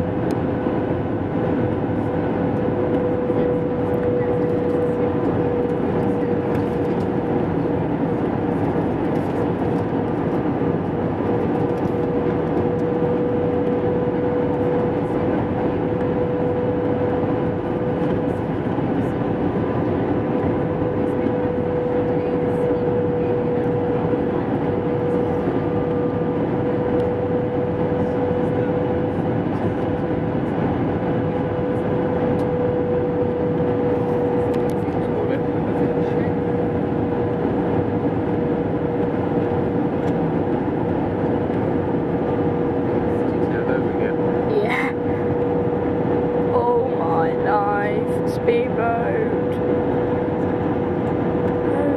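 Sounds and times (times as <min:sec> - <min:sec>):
constant humming tone: 0:00.0 - 0:51.9
jet engines and airflow in cabin: 0:00.0 - 0:51.9.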